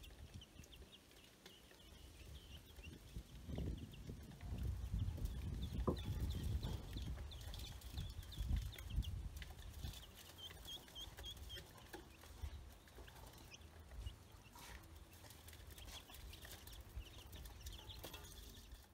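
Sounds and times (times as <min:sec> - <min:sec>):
chicks and ducklings peeping: 0:00.0 - 0:18.9.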